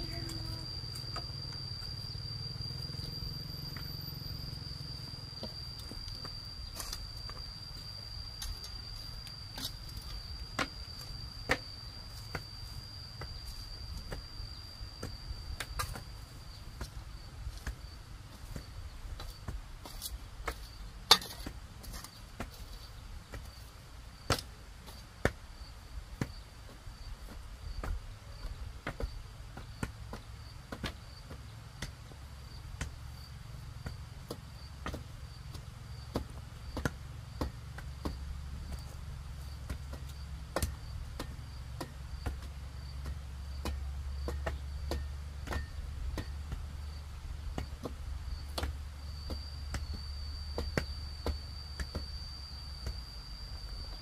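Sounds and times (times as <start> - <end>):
insects trilling: 0.0 - 54.0
wooden pole tamping earth: 5.4 - 54.0.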